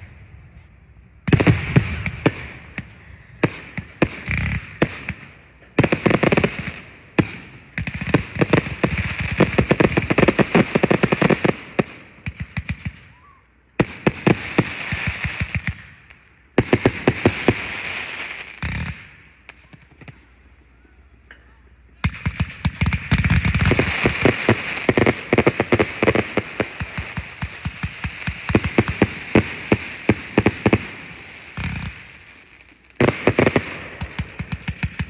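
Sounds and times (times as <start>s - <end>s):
fireworks popping and crackling: 1.3s - 13.2s, 13.8s - 20.4s, 22.0s - 35.0s.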